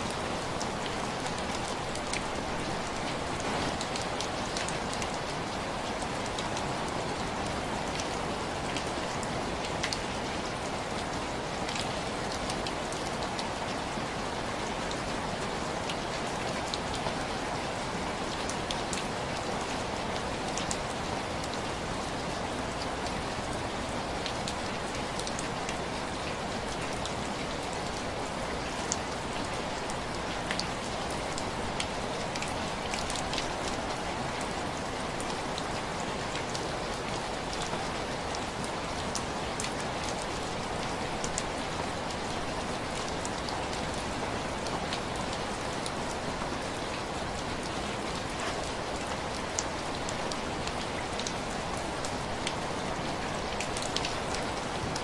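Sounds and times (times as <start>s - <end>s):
heavy rain falling: 0.0s - 55.0s
sharp ticks of raindrops: 0.0s - 55.0s.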